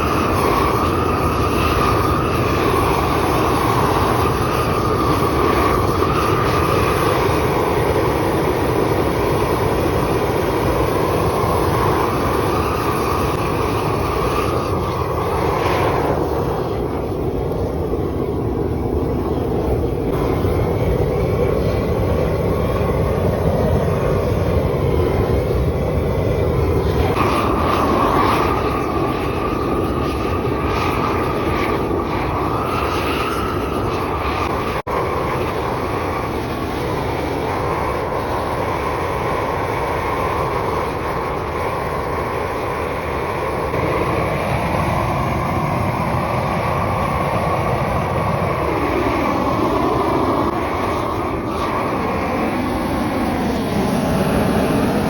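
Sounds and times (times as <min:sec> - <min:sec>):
propane torch roaring: 0:00.0 - 0:55.0.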